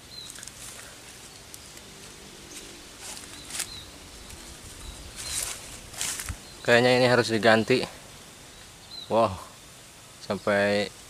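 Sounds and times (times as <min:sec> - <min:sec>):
rustling through undergrowth: 0:00.0 - 0:09.1.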